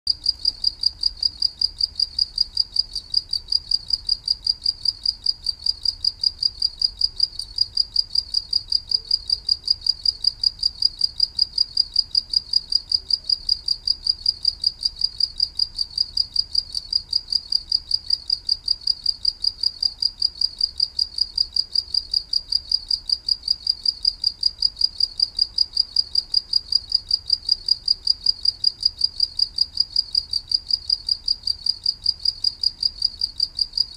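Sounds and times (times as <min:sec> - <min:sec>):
cricket chirping: 0:00.1 - 0:33.9.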